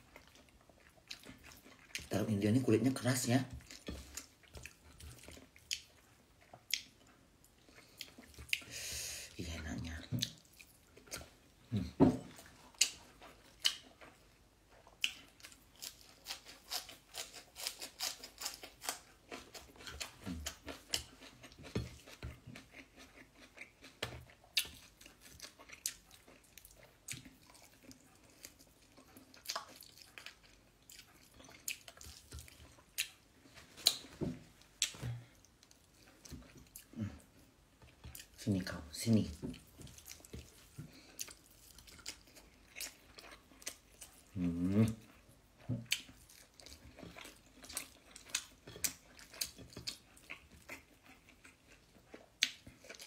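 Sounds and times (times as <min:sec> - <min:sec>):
chewing food: 0:00.0 - 0:53.0.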